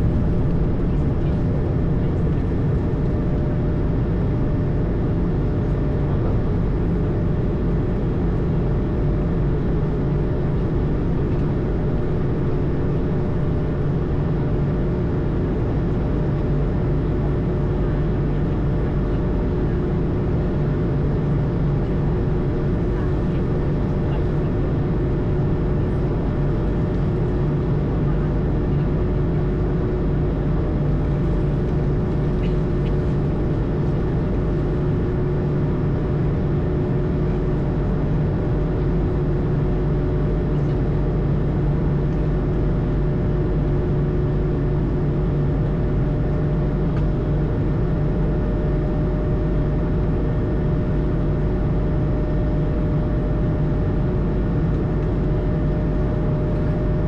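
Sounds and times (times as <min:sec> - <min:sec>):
airplane engine and airflow noise: 0:00.0 - 0:57.0.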